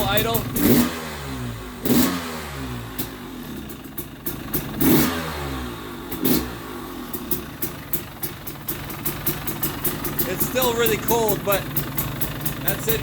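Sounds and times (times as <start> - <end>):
two-stroke engine idling: 0.0 - 2.0, 2.8 - 13.0.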